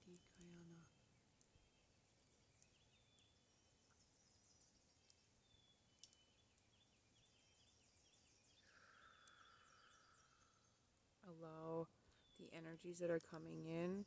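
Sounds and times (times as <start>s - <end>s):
faint high chirping: 0.0s - 13.8s
soft hiss: 0.0s - 14.0s.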